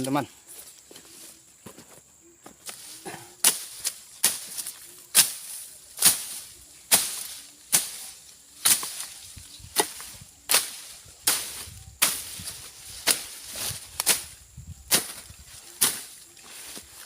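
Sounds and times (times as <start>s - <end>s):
blade swishing through grass: 2.6s - 17.0s.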